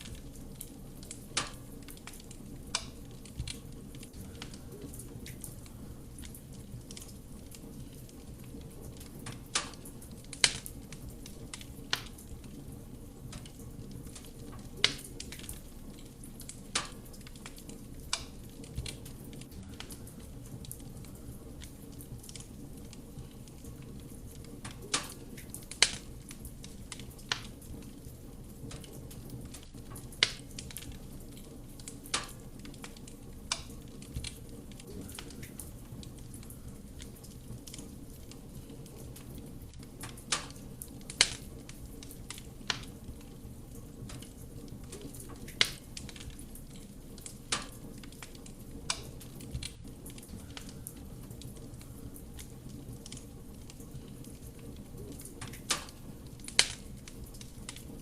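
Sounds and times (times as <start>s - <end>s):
burning wood crackling and popping: 0.0s - 58.0s
fire burning rush of flame: 0.0s - 58.0s.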